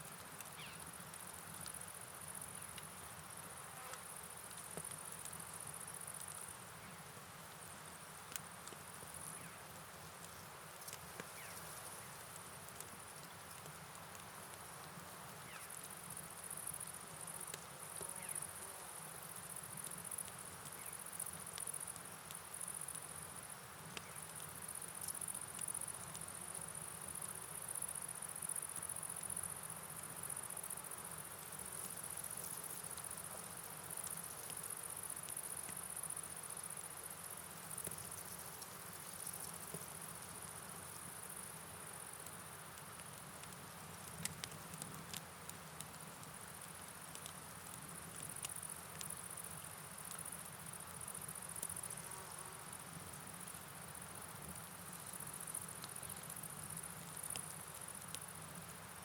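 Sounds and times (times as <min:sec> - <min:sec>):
rain: 0:00.0 - 0:59.0
crickets chirping: 0:00.4 - 0:59.0.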